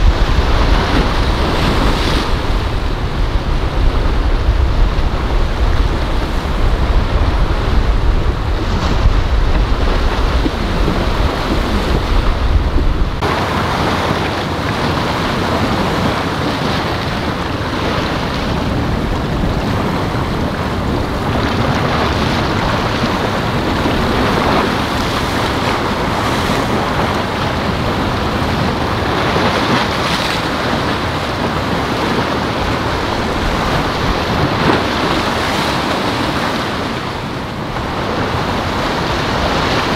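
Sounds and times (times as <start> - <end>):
waves and surf washing: 0.0 - 39.9
wind rumble on microphone: 0.0 - 39.9.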